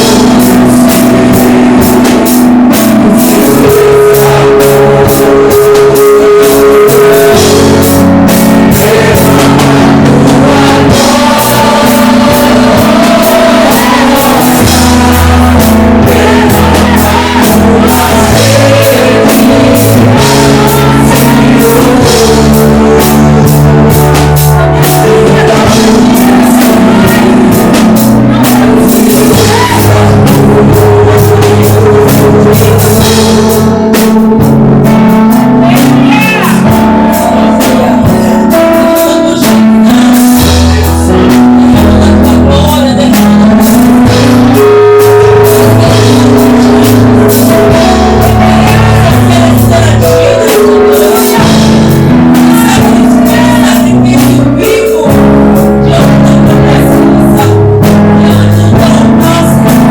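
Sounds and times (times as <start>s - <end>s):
live band playing loudly: 0.0s - 59.9s
person singing: 0.0s - 59.9s.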